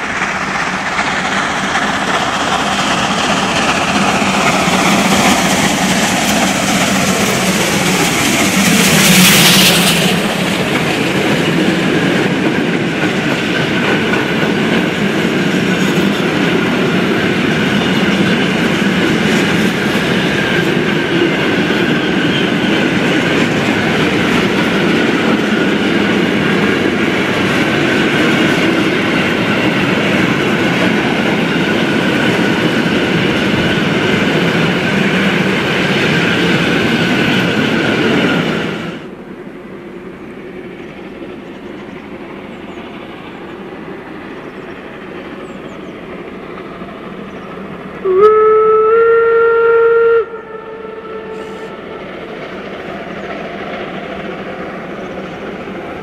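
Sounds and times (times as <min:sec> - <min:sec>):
steam locomotive passing: 0:00.0 - 0:56.0
train wheels rolling on rails: 0:00.0 - 0:56.0.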